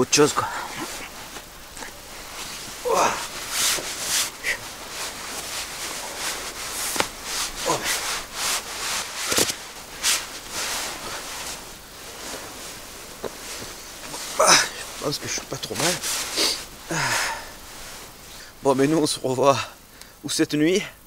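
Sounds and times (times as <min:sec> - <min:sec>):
hammock and sleeping bag rustling: 0:00.0 - 0:20.0.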